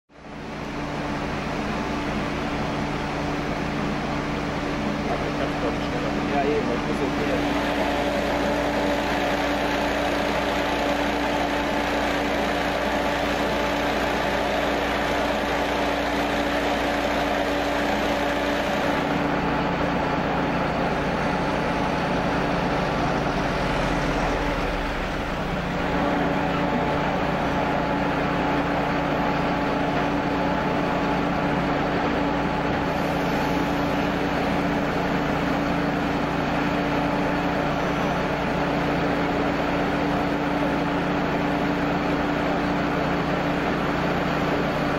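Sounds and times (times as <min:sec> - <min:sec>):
fire engine running: 0:00.1 - 0:44.9.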